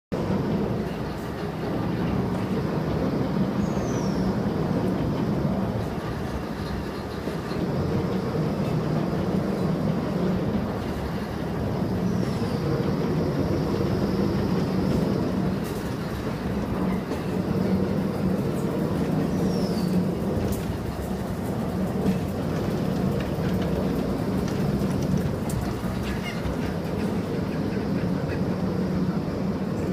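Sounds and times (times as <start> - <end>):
lathe mechanical rumble: 0.1 - 29.9.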